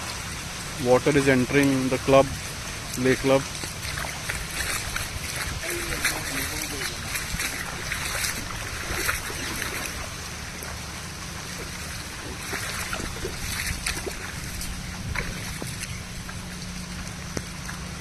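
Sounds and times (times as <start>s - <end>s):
lake water running: 0.0s - 18.0s
rain falling: 0.0s - 18.0s.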